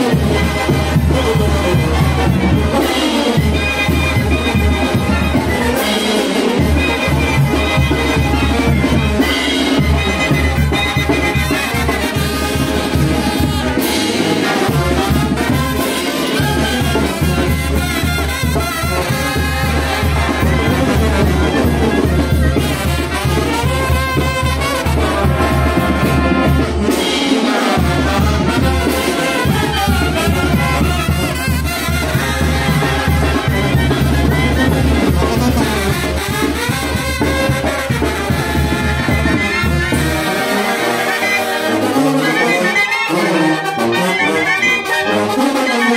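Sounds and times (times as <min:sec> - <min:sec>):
brass band playing: 0:00.0 - 0:45.9.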